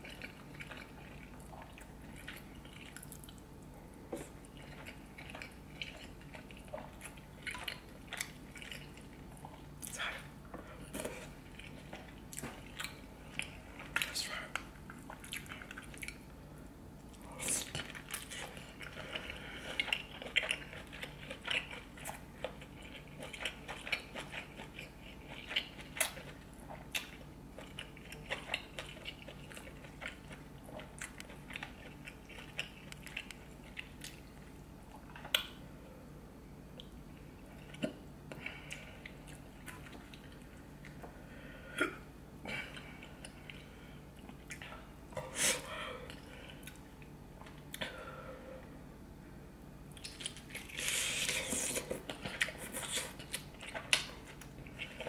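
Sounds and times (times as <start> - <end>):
wet chewing and mouth sounds: 0.0 - 35.6, 36.7 - 41.2, 42.5 - 47.9, 49.9 - 55.0.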